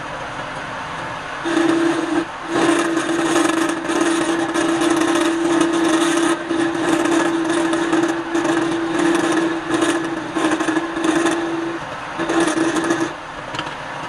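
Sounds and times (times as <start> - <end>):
lathe droning tone: 0.8 - 14.0
turning tool scraping wood: 1.4 - 13.8.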